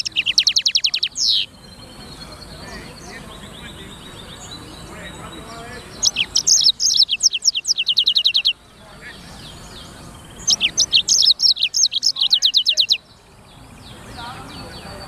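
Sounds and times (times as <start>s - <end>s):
canary singing high twittering song: 0.0s - 15.0s.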